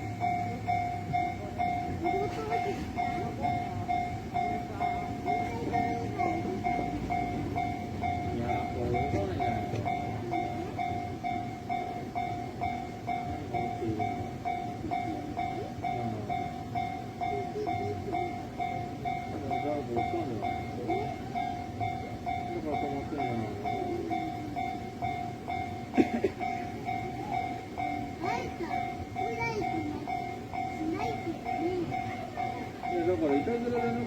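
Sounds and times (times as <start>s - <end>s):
level-crossing bell ringing: 0.0s - 34.0s
passing train rumble: 0.0s - 34.0s.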